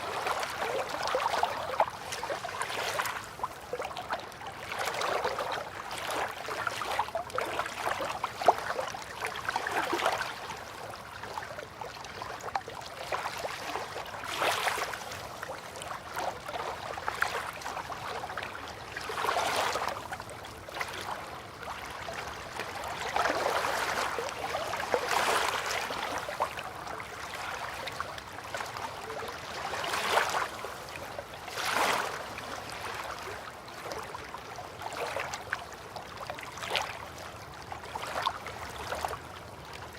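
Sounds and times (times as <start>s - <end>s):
river water lapping at bank: 0.0s - 39.9s.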